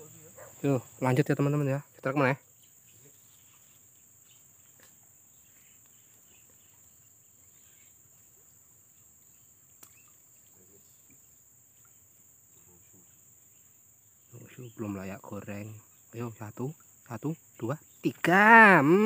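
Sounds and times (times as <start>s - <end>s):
faint high-pitched insect buzz: 0.0s - 19.0s.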